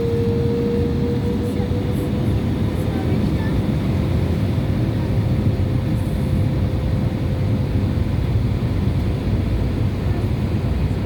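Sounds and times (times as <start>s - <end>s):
low rumble inside airliner cabin: 0.0s - 11.0s.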